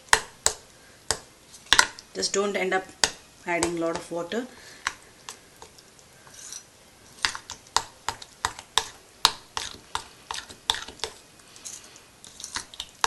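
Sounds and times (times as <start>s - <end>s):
spoon stirring batter in bowl: 0.0s - 13.0s.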